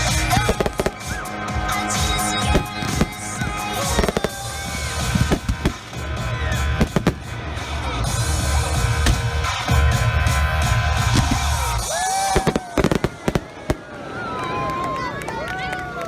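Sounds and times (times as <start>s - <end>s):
firework whistles: 0.0s - 7.4s, 8.2s - 14.4s
music with heavy bass beat: 0.0s - 13.4s
fireworks banging: 0.0s - 14.8s.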